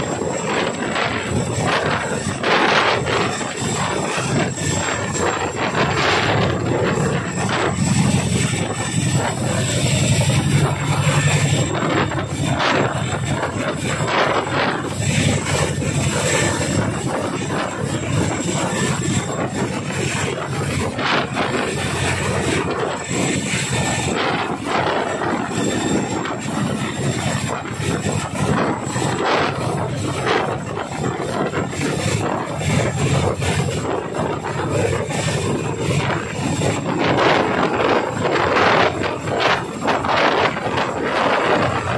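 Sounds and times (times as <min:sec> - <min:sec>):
helicopter hovering: 0:00.0 - 0:41.9
high engine whine: 0:00.0 - 0:41.9
rotor blades beating: 0:00.0 - 0:41.9.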